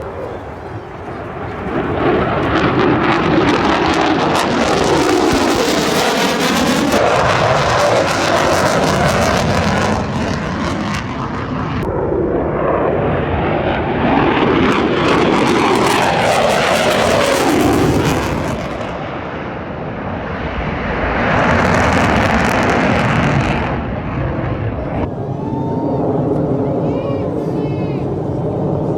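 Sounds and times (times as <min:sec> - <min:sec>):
jet fighter flying by: 0:00.0 - 0:28.9.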